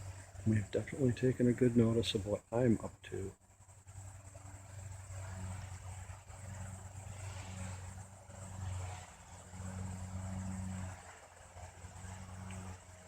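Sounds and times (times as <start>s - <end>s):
faint high buzz: 0.0s - 13.0s
low engine-like hum: 0.0s - 13.0s.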